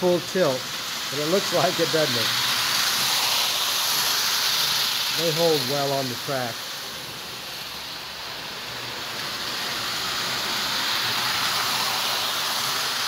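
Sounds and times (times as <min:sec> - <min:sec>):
toy train whirring rumble: 0:00.0 - 0:13.0.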